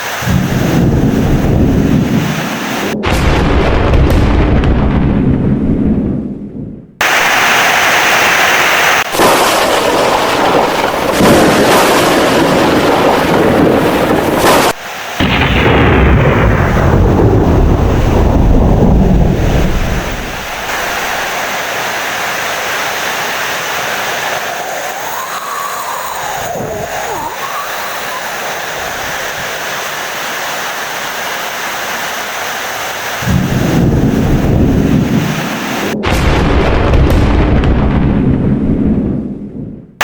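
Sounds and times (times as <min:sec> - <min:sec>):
heavy rain: 0:00.0 - 0:05.0, 0:07.0 - 0:38.6
rolling thunder: 0:00.1 - 0:07.6, 0:09.0 - 0:29.6, 0:33.2 - 0:40.0.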